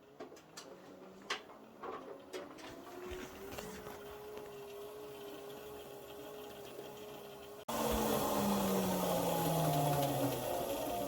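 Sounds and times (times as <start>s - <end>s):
washing machine mechanical whine: 0.0s - 11.0s.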